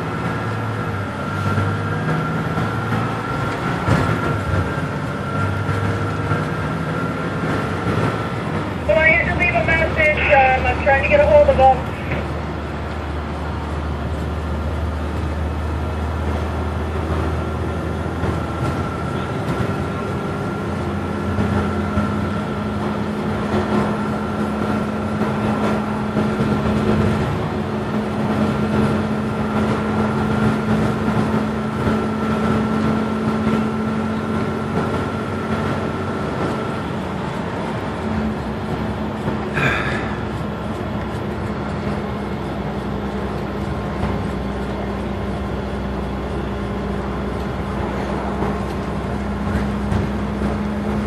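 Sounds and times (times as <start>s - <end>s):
bus diesel engine: 0.0s - 51.0s
road noise: 0.0s - 51.0s.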